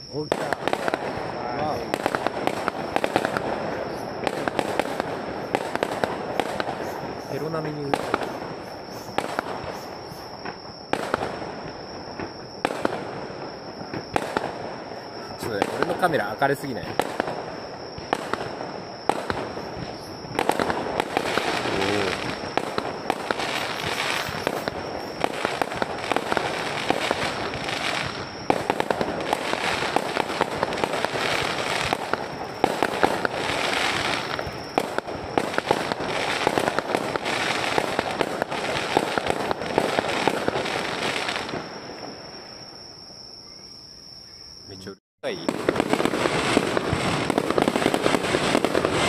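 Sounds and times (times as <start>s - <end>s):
fireworks crackling and popping: 0.0s - 42.5s, 44.8s - 49.0s.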